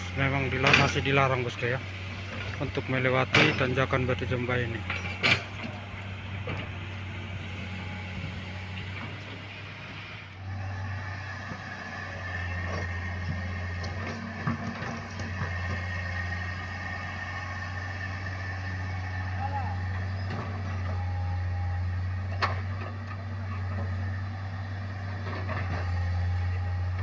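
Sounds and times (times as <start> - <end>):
heavy vehicle engine humming: 0.0 - 27.0.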